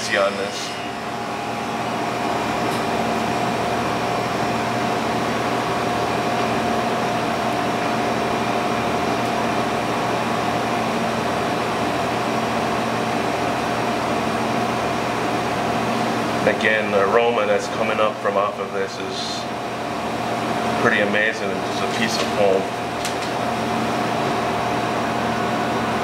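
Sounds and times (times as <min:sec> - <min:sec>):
ventilation fan humming: 0:00.0 - 0:26.0.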